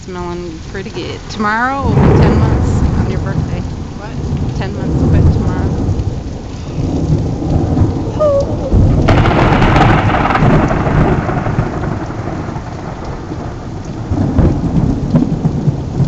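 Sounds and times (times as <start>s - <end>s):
steady rain: 0.0s - 16.0s
thunder rumbling and cracking: 0.0s - 16.0s.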